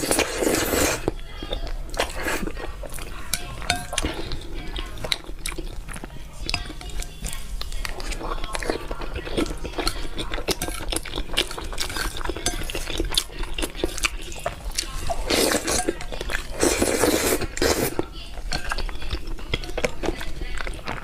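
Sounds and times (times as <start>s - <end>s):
biting and chewing: 0.0s - 21.0s
utensils clinking on dish: 2.1s - 21.0s.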